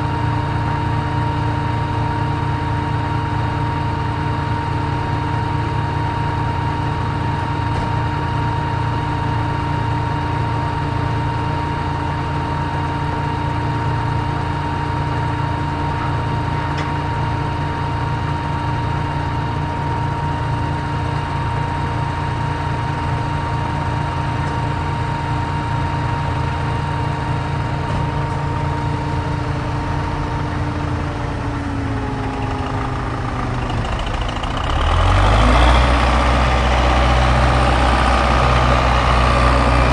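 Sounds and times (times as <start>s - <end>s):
constant whine: 0.0s - 39.9s
heavy truck engine idling: 0.0s - 39.9s.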